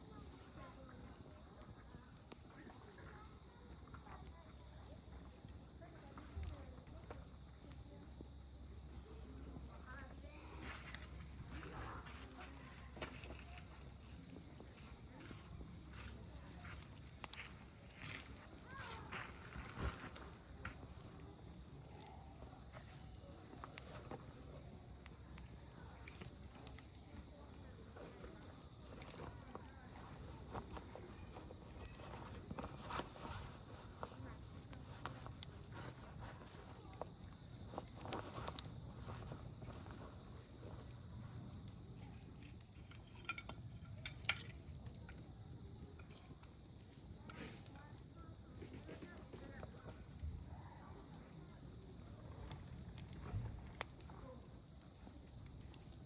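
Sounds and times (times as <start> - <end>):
campfire crackling and popping: 0.0 - 56.0
insects chirping: 0.0 - 56.0.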